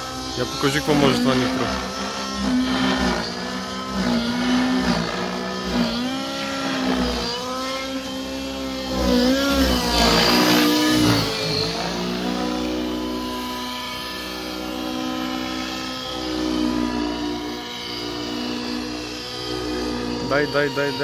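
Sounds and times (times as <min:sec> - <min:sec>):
model helicopter rotor whine: 0:00.0 - 0:21.0.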